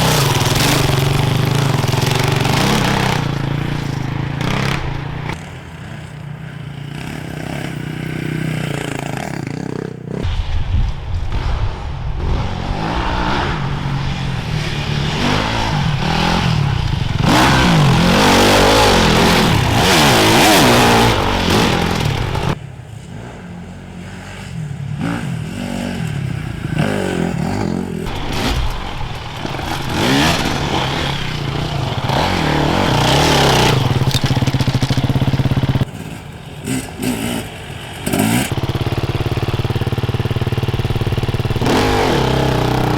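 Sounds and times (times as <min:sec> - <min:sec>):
motorcycles revving past: 0:00.0 - 0:10.3, 0:12.2 - 0:42.9.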